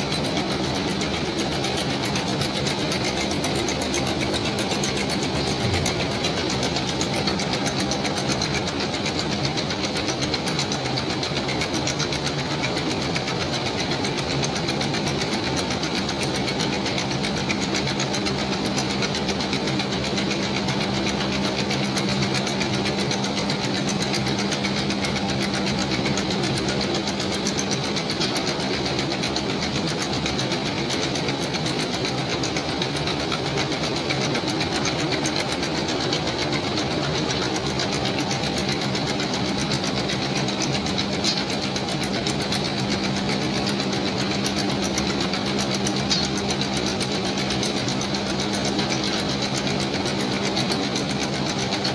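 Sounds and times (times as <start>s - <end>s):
machine running with hum and whine: 0.0s - 51.9s.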